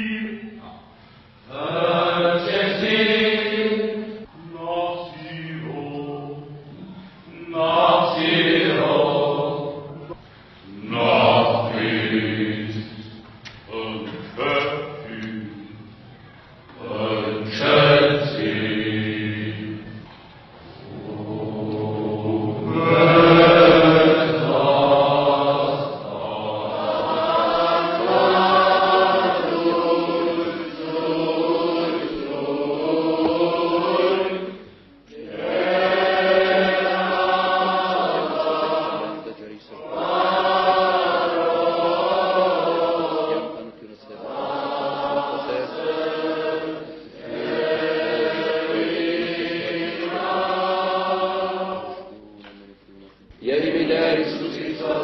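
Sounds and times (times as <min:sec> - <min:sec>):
choir singing: 0:01.5 - 0:16.1, 0:16.7 - 0:52.8, 0:53.4 - 0:55.0.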